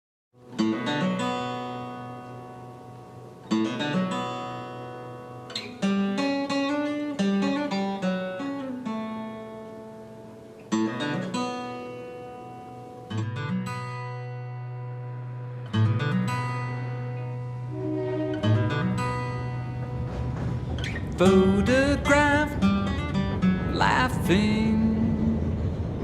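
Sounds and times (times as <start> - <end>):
picked guitar melody: 0.4 - 26.0
strummed guitar chords: 0.5 - 26.0.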